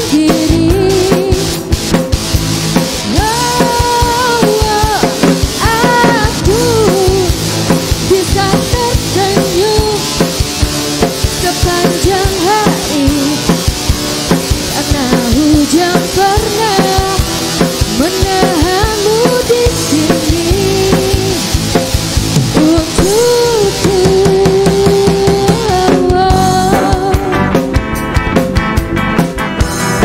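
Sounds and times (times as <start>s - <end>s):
drum kit beat: 0.0s - 30.0s
guitars: 0.0s - 30.0s
keyboard: 0.0s - 30.0s
sliding lead melody: 0.0s - 30.0s.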